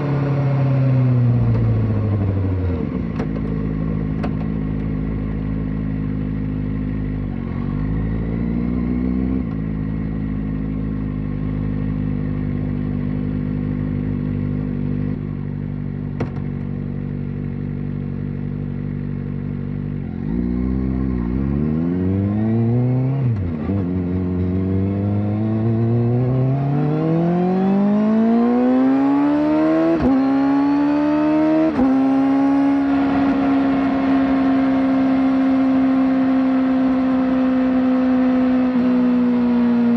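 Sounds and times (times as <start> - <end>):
motorcycle engine accelerating: 0.0 - 39.9
motorcycle engine cruising: 0.0 - 39.9.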